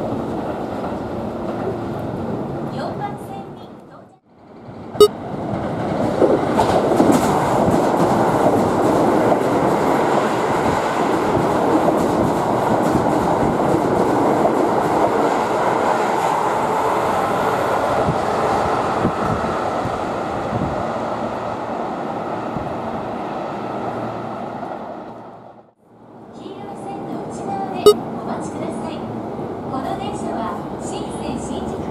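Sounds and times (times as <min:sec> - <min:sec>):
electric train rumbling: 0:00.0 - 0:03.7, 0:04.4 - 0:31.9.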